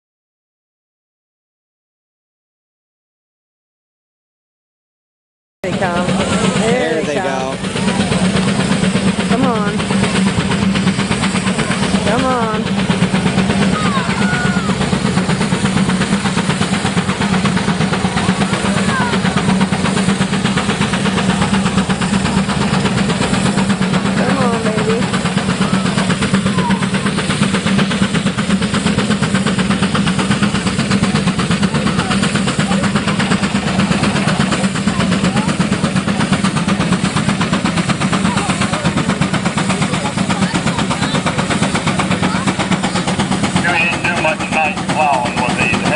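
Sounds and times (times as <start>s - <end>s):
steam engine exhaust chuffing: 5.6s - 45.9s.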